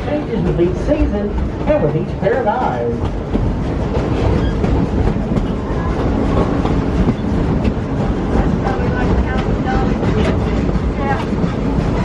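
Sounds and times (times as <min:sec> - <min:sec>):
train rumbling on track: 0:00.0 - 0:12.0
wheels clacking over rail joints: 0:00.0 - 0:12.0.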